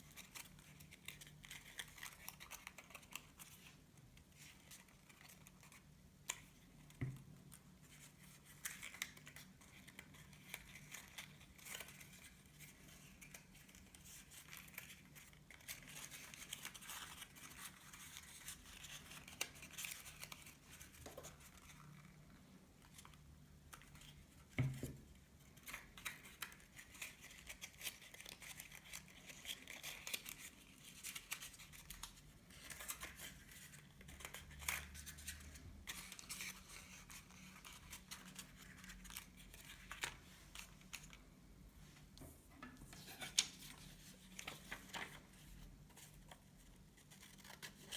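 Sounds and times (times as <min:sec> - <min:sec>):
paper rustling and creasing: 0:00.0 - 0:47.9.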